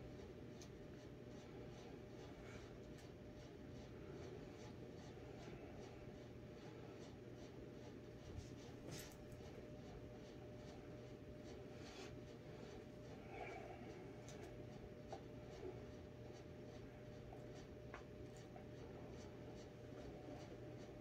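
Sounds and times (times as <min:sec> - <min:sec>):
steady low hum: 0:00.0 - 0:21.0
scratchy ticks and rustles: 0:00.2 - 0:21.0.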